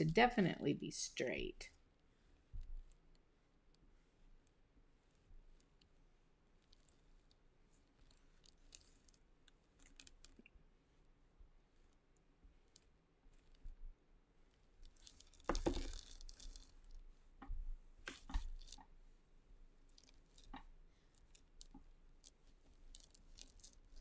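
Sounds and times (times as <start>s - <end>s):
sponge and hands rubbing wet clay: 0.0s - 24.0s.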